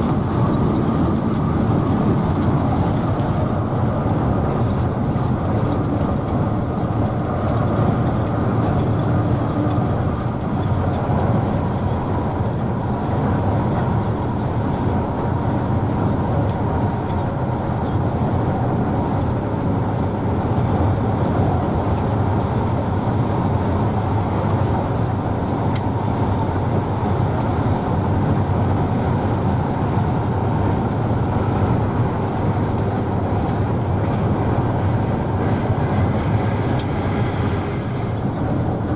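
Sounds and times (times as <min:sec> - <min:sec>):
bus engine and road rumble: 0:00.0 - 0:38.9.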